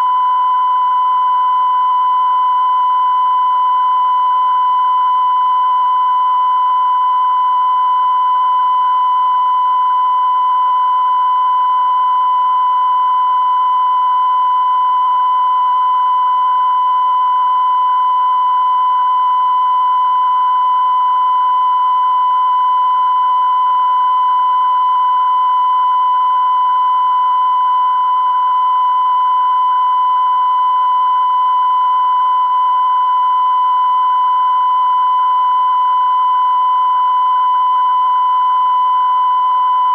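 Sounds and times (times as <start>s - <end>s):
high-pitched test tone beep: 0.0s - 39.9s.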